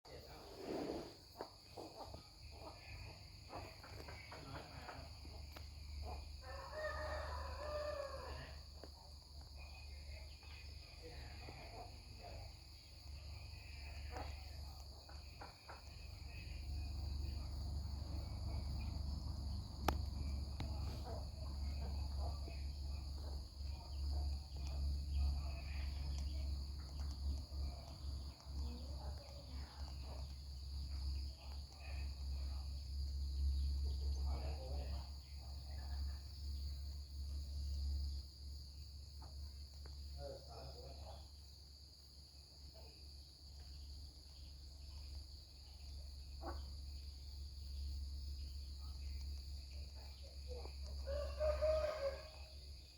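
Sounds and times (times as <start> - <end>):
steady low hum: 8.5 - 51.1.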